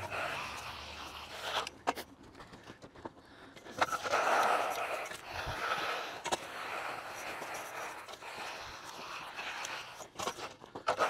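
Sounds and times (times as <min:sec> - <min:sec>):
float scraping wet concrete: 0:00.0 - 0:02.0, 0:03.6 - 0:11.0.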